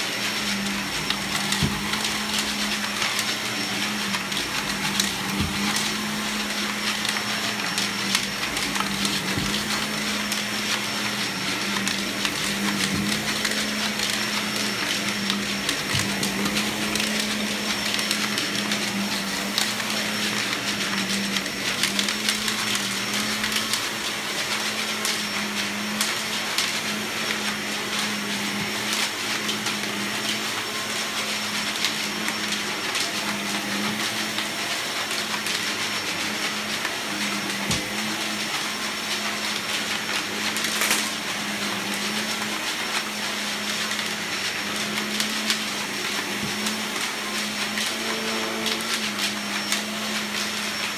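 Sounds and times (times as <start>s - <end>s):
vacuum cleaner motor hum: 0.0s - 50.9s.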